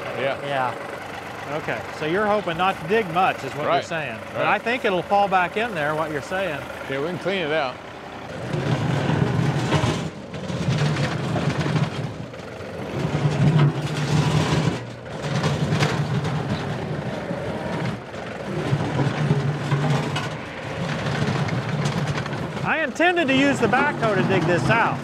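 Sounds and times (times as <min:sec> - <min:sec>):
tractor diesel engine: 0:00.0 - 0:25.0.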